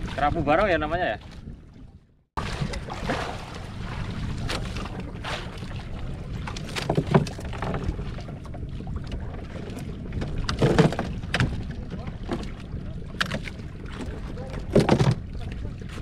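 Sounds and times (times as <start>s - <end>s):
wind rush on microphone: 2.4s - 16.0s.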